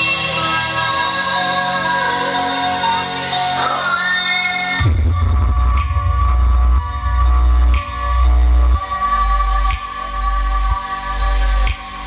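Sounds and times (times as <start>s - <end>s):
loud electronic music: 0.0s - 12.0s.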